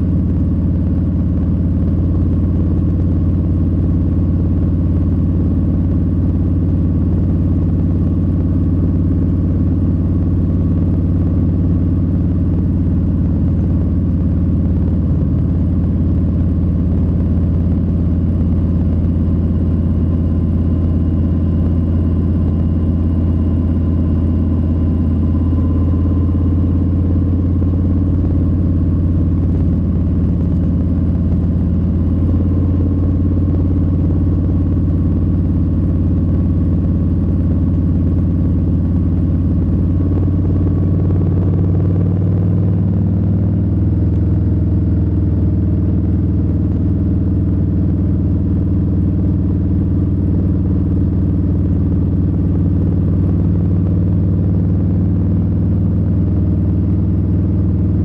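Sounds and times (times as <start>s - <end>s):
motorcycle engine running steadily: 0.0s - 58.0s.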